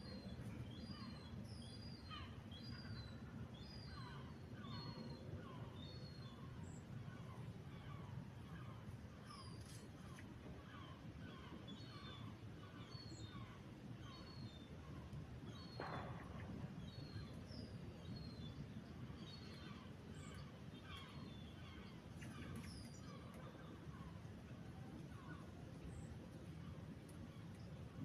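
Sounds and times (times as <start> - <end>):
low background rumble: 0.0 - 28.0
small birds chirping: 0.0 - 28.0.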